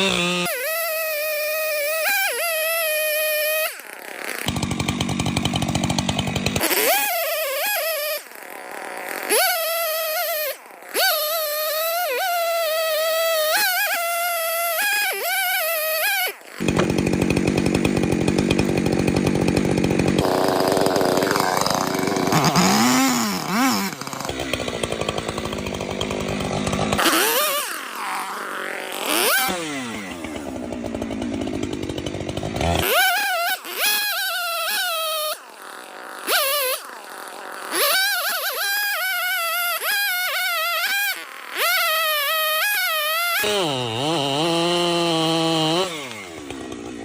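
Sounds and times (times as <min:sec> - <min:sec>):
angle grinder cutting wood: 0:00.0 - 0:47.0.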